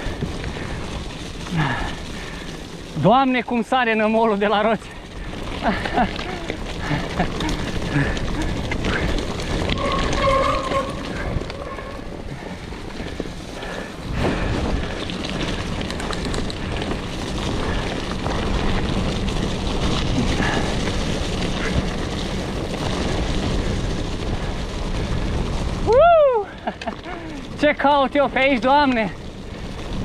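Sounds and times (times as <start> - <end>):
bike tyre and wind noise: 0.0 - 30.0.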